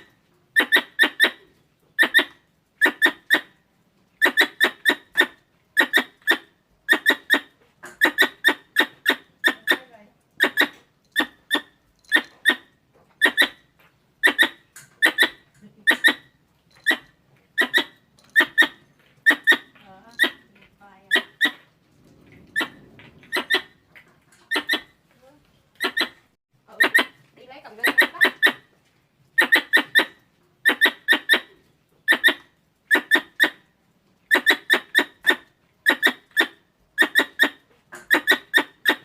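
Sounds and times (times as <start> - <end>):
squirrel chirping: 0.0 - 3.6, 4.2 - 21.7, 22.5 - 25.0, 25.8 - 28.7, 29.4 - 33.6, 34.3 - 39.0.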